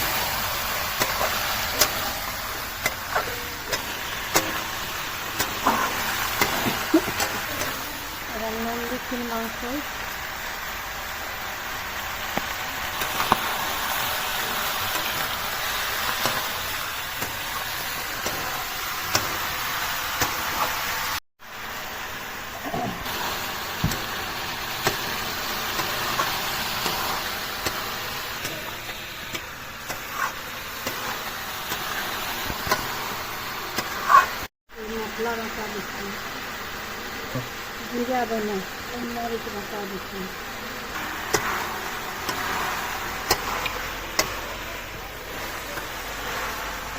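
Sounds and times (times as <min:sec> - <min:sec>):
sharp clicks in frying: 0:00.0 - 0:21.2, 0:22.6 - 0:34.5, 0:37.3 - 0:46.9
chicken sizzling in oil: 0:00.0 - 0:46.9.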